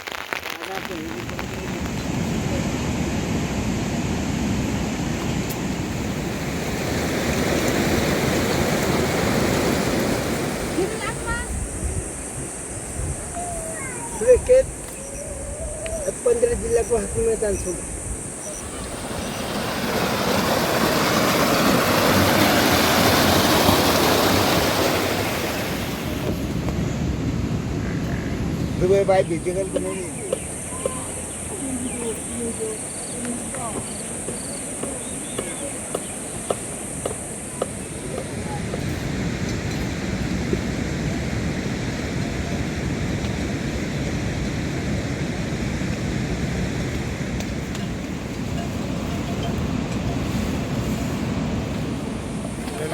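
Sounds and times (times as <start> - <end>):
water rushing: 0.0 - 15.5, 16.1 - 26.6, 35.7 - 52.9.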